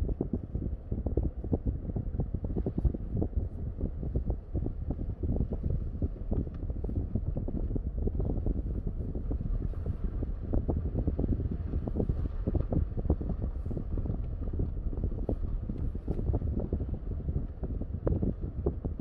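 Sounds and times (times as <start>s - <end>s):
road and wind rumble: 0.0s - 19.0s
wind buffeting microphone: 0.0s - 19.0s.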